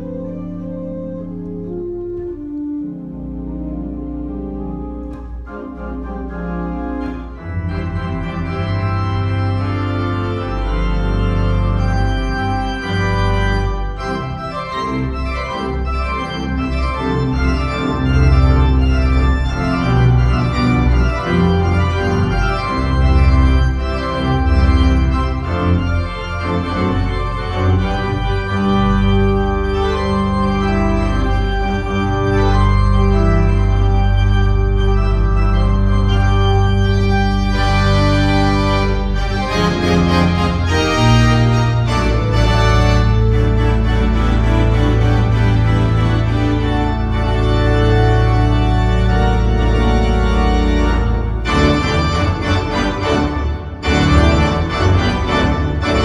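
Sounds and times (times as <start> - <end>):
deep organ pedal bass notes: 0.0 - 56.0
pipe organ chords: 0.0 - 56.0.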